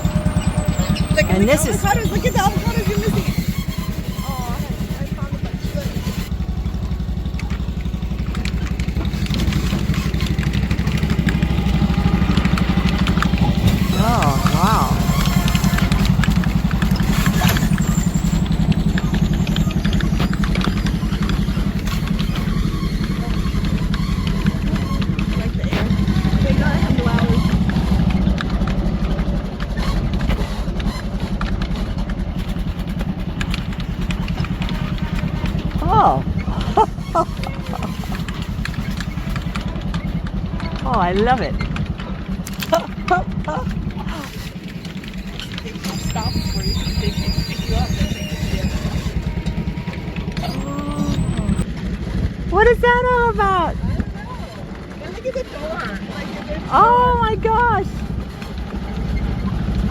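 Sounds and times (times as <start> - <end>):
clicks and rattles of ride: 0.0 - 59.9
ride engine throbbing: 0.0 - 59.9.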